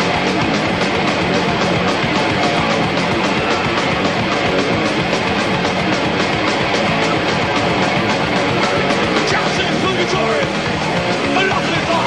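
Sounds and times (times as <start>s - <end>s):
rock music with electric guitar: 0.0s - 12.0s.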